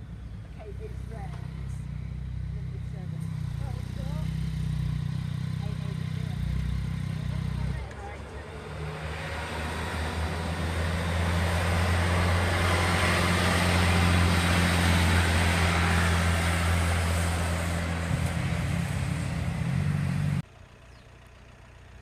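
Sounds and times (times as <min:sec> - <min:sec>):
diesel engine hum: 0:00.0 - 0:22.0
wheels rushing on rail: 0:00.0 - 0:22.0.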